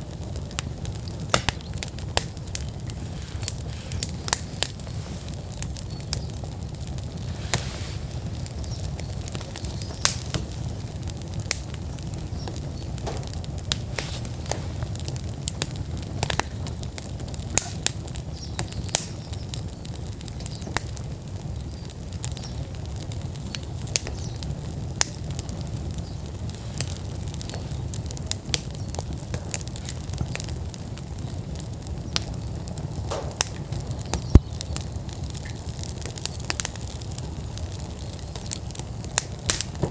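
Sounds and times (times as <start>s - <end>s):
fire low rumble: 0.0s - 39.9s
wood fire crackling and popping: 0.0s - 39.9s.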